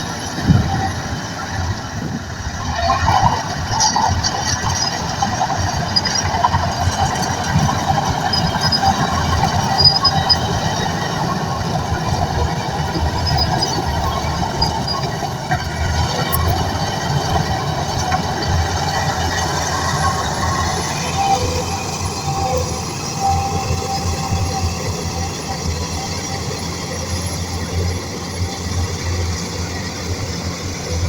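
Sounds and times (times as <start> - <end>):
bulldozer engine rumble: 0.0 - 31.0
metallic squealing of steel tracks: 0.0 - 31.0.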